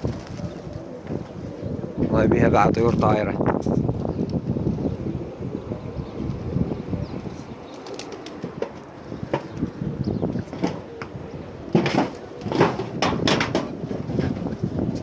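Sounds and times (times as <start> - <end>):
pigeons clattering and flapping: 0.0 - 4.6, 6.2 - 15.0
wind rumble on microphone: 0.0 - 15.0.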